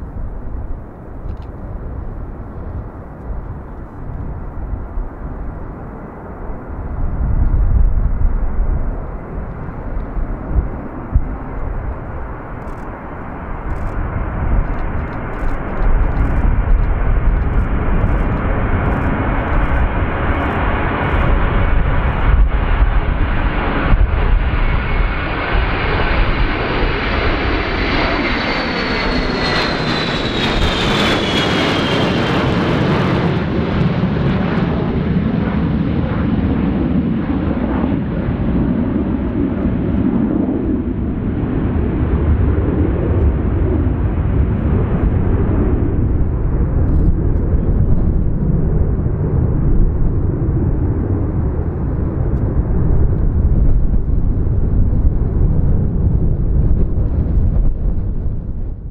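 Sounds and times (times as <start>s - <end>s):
high jet whine: 0.0s - 58.9s
jet engines deep rumble: 0.0s - 58.9s.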